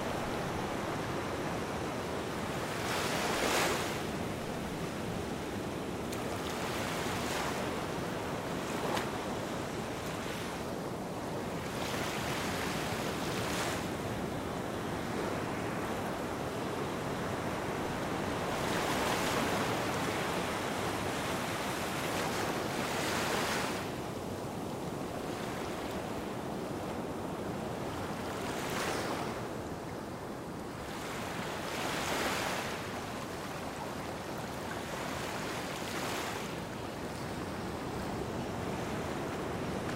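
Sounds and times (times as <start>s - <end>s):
gentle waves washing on beach: 0.0s - 39.9s.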